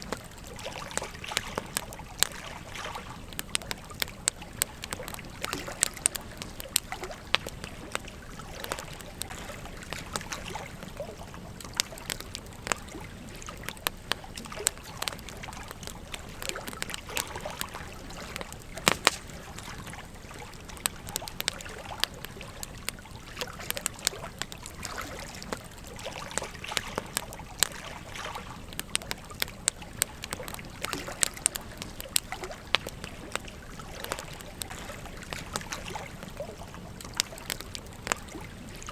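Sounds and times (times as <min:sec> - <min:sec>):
flowing stream: 0:00.0 - 0:38.9
wood fire crackling and popping: 0:00.0 - 0:38.9.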